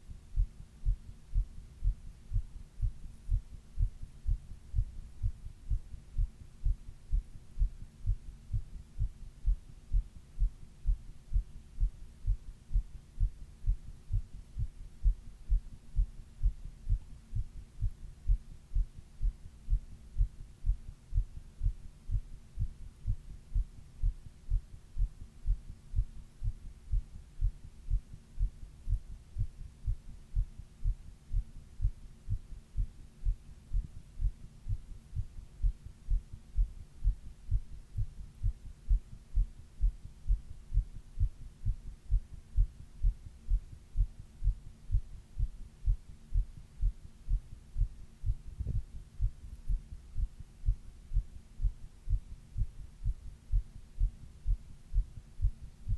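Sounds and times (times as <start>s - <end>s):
faint steady hum: 0.0s - 55.9s
human heartbeat: 0.0s - 55.9s.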